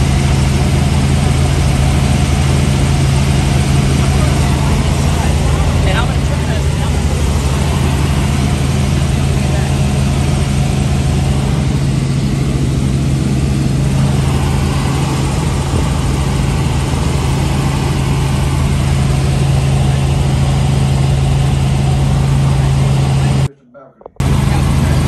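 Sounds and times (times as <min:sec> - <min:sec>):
helicopter rotor and engine drone: 0:00.0 - 0:23.5, 0:24.2 - 0:25.0
rushing noise: 0:00.0 - 0:23.5.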